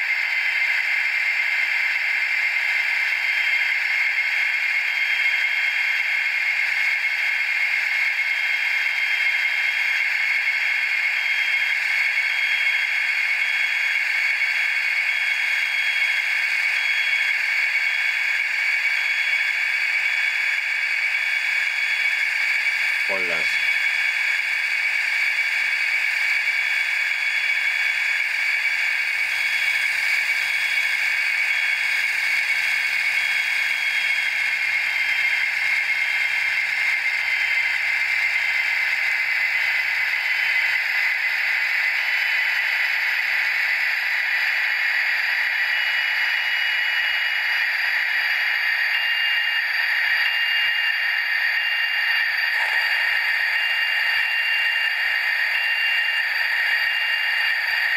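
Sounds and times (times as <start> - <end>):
thin hissy model engine sound: 0.0 - 57.9.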